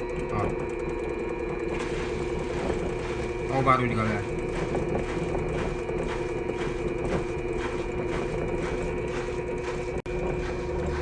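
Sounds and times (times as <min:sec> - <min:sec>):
washer-dryer drum spinning: 0:00.0 - 0:11.0
repeating rubbing noise: 0:01.7 - 0:11.0.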